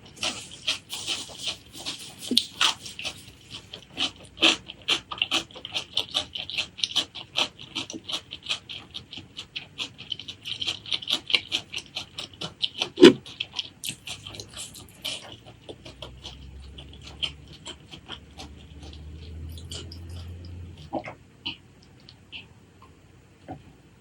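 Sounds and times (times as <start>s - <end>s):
wet chewing and lip-smacking: 0.0s - 23.7s.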